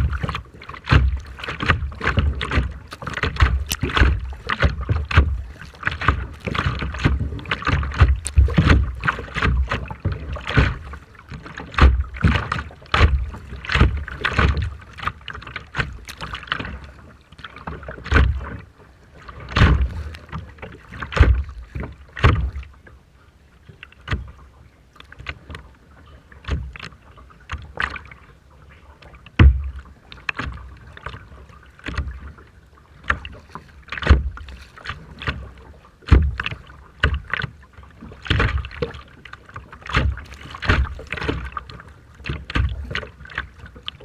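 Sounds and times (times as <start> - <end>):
rough sea water splashing: 0.0 - 44.0.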